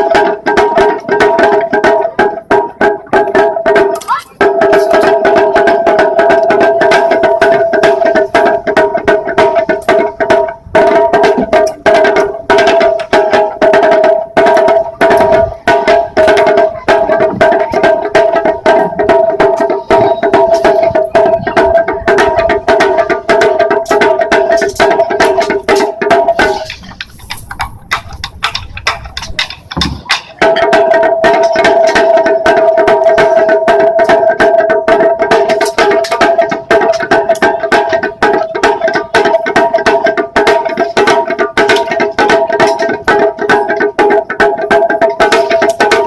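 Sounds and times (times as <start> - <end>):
taiko drums beating: 0.0 - 46.0.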